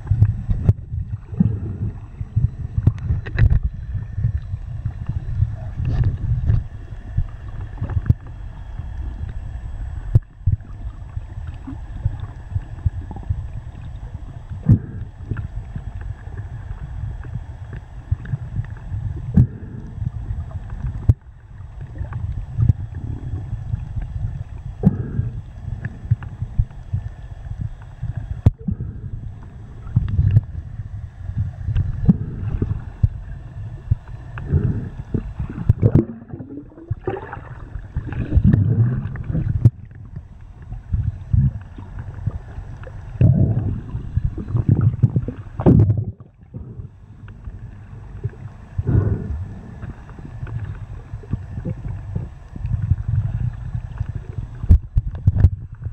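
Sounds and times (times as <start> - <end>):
underwater rumble and sloshing: 0.0 - 55.9.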